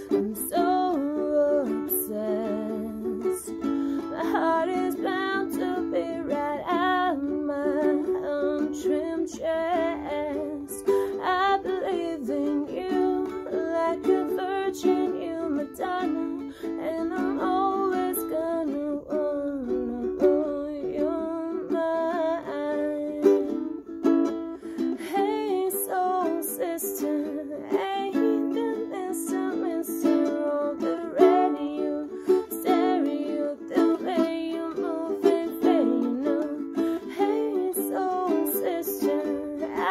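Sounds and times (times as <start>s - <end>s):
person singing: 0.0s - 39.9s
ukulele strumming: 0.0s - 39.9s.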